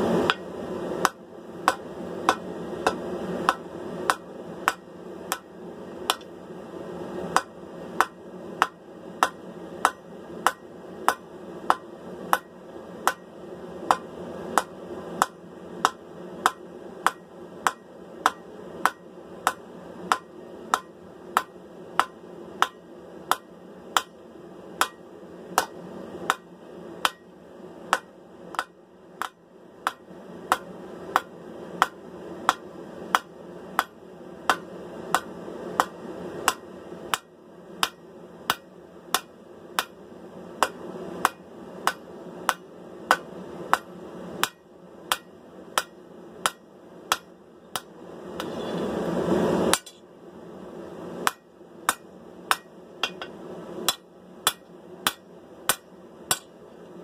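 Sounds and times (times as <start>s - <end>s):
steady rushing noise: 0.0s - 57.0s
hammer striking steel on anvil: 0.3s - 5.5s, 6.1s - 6.3s, 7.3s - 13.3s, 13.9s - 24.2s, 24.8s - 25.0s, 25.6s - 27.3s, 27.9s - 40.0s, 40.6s - 48.8s, 49.7s - 50.0s, 51.2s - 56.6s.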